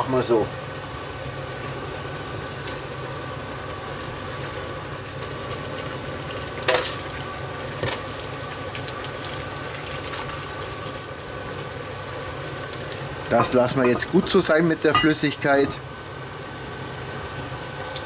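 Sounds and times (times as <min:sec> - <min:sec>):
stew sizzling in a pot: 0:00.0 - 0:18.0.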